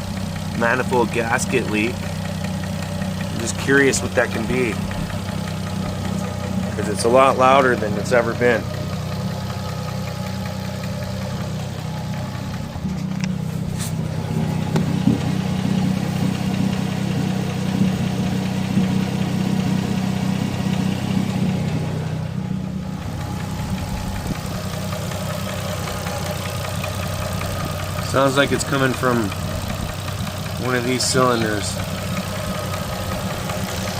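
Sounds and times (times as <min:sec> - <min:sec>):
car engine idling: 0:00.0 - 0:33.9
engine ticking: 0:00.0 - 0:33.9.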